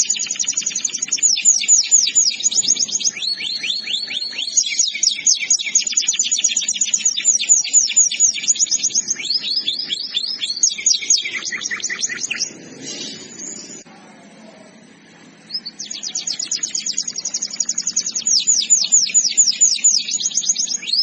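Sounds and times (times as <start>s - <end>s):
canary singing trills: 0.0s - 13.9s, 15.2s - 21.0s.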